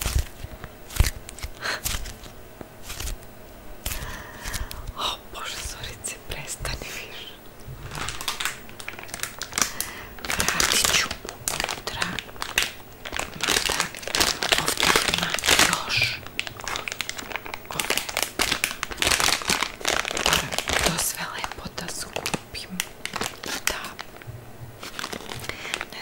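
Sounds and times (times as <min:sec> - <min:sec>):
crinkly material crumpling: 0:00.0 - 0:03.2, 0:07.8 - 0:24.2, 0:24.8 - 0:26.0.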